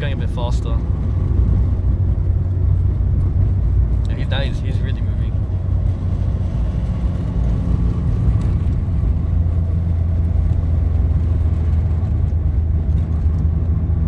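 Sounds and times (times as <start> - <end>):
car engine droning: 0.0 - 14.0
road noise: 0.0 - 14.0.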